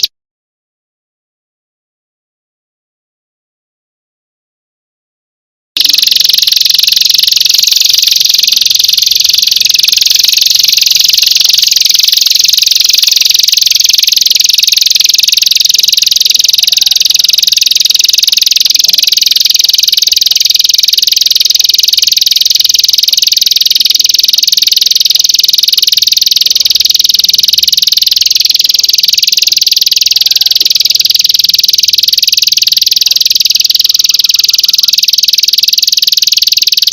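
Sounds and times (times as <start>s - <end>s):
high-pitched pulsing trill: 5.8s - 36.9s.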